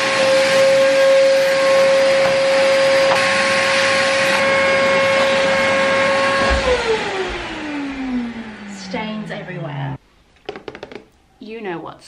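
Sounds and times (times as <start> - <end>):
vacuum cleaner motor whine: 0.0 - 10.0.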